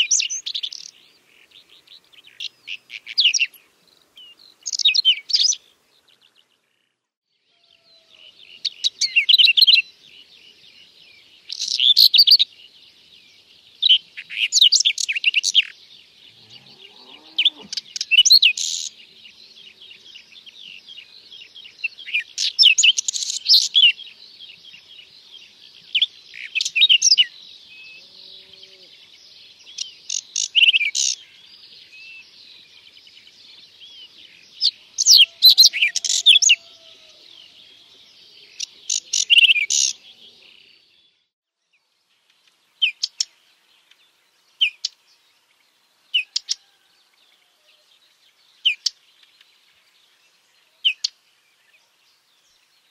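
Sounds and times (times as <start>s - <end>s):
bird song scratchy phrases: 0.0s - 7.0s, 8.2s - 46.8s, 47.9s - 52.9s.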